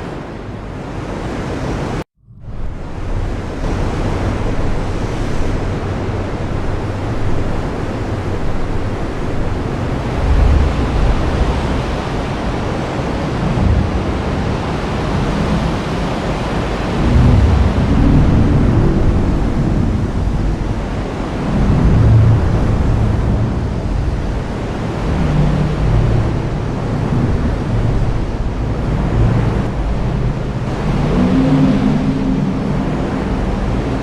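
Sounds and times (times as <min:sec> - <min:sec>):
thunder rumbles: 0:02.4 - 0:34.0
heavy rain: 0:02.6 - 0:34.0.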